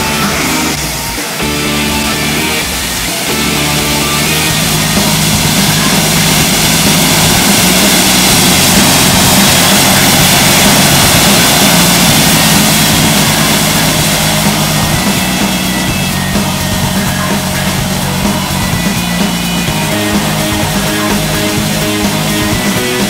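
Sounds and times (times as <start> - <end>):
faint rock music: 0.0 - 23.0
turboprop engine hiss and whine: 0.0 - 23.0.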